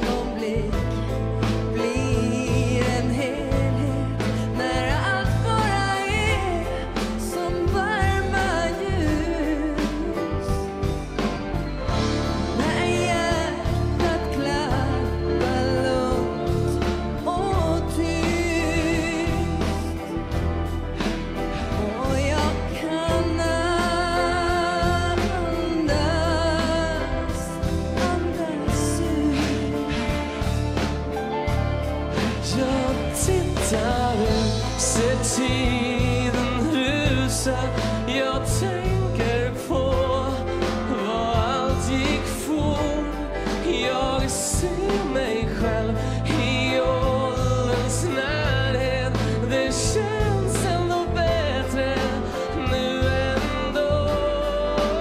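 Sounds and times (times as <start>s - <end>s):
woman singing: 0.0s - 31.1s, 32.2s - 55.0s
band playing: 0.0s - 55.0s
steady bass line: 0.0s - 55.0s.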